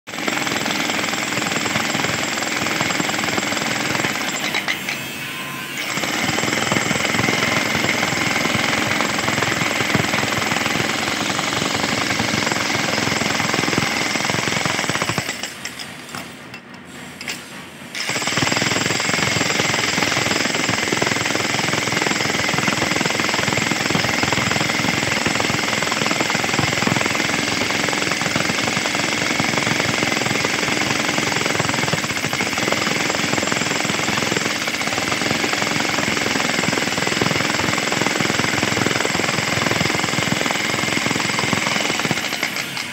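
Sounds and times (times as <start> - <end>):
jackhammer hammering concrete: 0.1 - 5.0, 5.8 - 15.5, 18.0 - 42.9.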